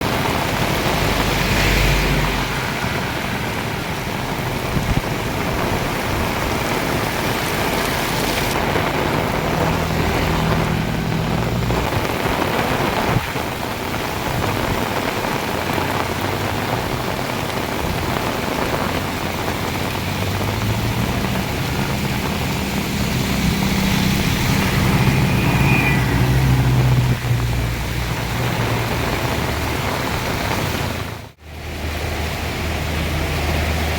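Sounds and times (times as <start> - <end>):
heavy rain pouring: 0.0 - 33.9
vehicle engine hum: 0.0 - 33.9.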